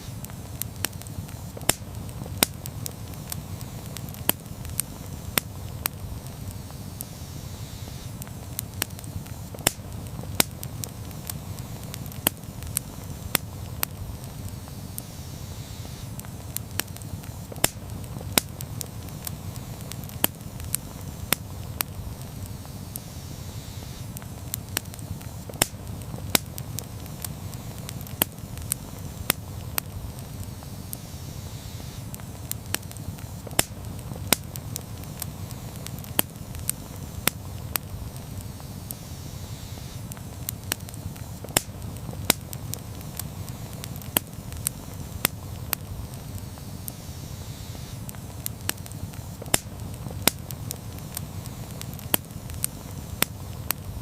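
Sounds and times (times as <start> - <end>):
campfire crackling and popping: 0.0 - 54.0
low rush of flames: 0.0 - 54.0.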